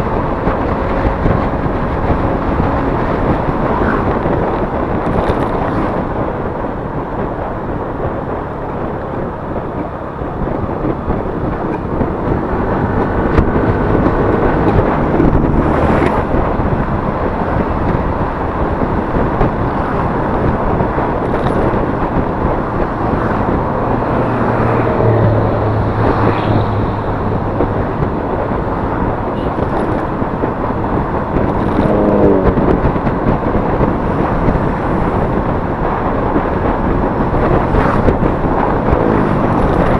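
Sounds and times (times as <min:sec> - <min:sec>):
scooter engine running: 0:00.0 - 0:39.9
wind noise on microphone: 0:00.0 - 0:39.9.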